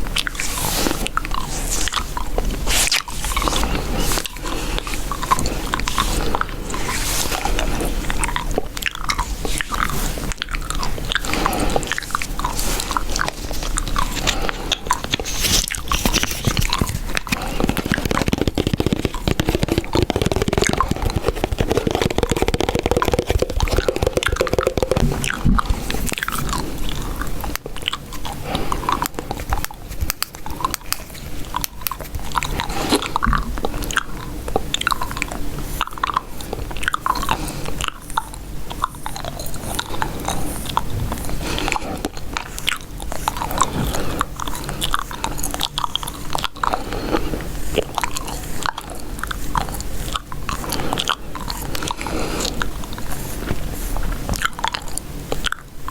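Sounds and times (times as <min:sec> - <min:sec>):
gum chewing with open mouth: 0:00.0 - 0:55.9.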